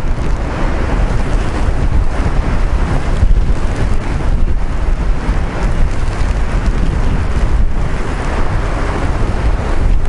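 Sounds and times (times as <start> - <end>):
heavy surf: 0.0 - 10.0
wind buffeting microphone: 0.0 - 10.0.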